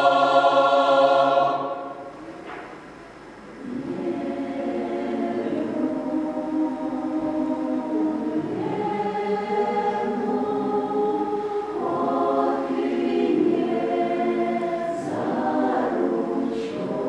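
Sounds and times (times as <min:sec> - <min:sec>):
mixed choir singing: 0:00.0 - 0:02.1, 0:03.5 - 0:17.0.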